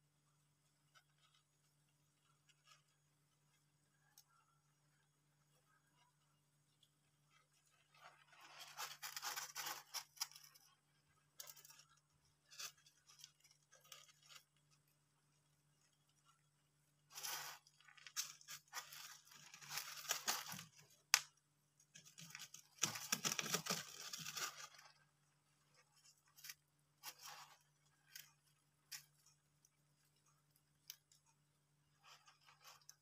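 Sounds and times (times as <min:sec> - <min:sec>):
hamsters rustling in wood shavings: 0:00.4 - 0:33.0.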